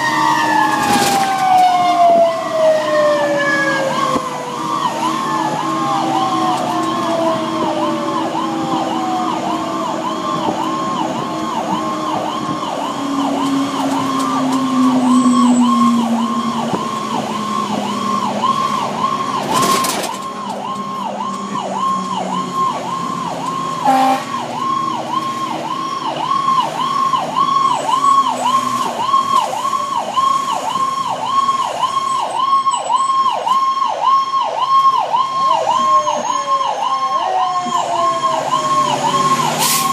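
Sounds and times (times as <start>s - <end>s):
fire engine siren yelping: 0.0s - 39.9s.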